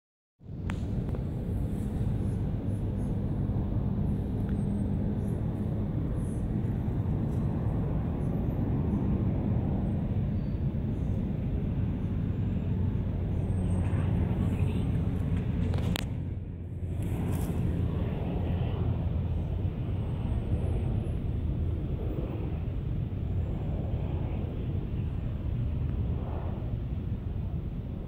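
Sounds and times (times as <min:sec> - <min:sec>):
faint hum: 0:00.4 - 0:28.0
low outdoor rumble: 0:00.4 - 0:28.0.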